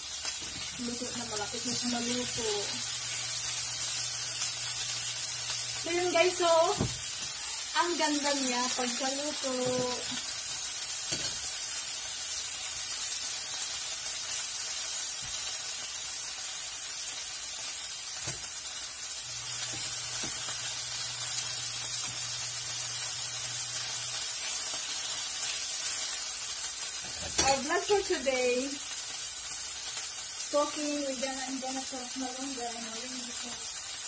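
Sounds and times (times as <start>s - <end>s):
fish sizzling in frying pan: 0.0s - 34.0s.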